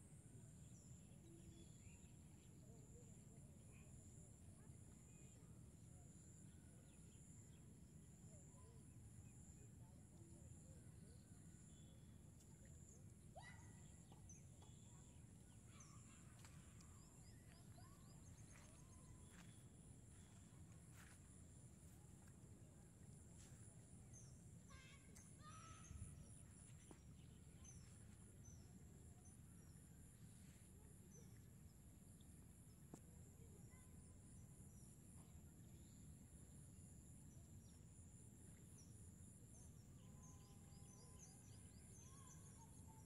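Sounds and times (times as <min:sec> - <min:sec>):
insect drone with chirr: 0:00.1 - 0:43.0.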